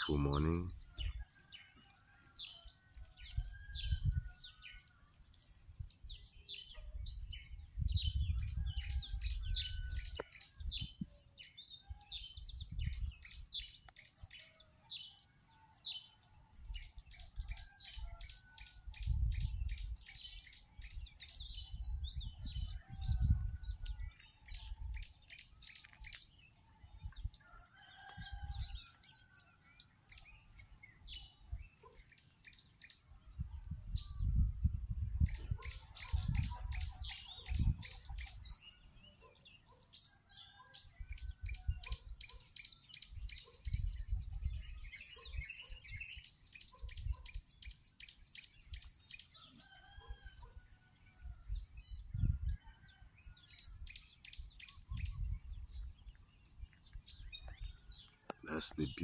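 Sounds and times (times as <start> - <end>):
birds chirping chorus: 0.0 - 59.0.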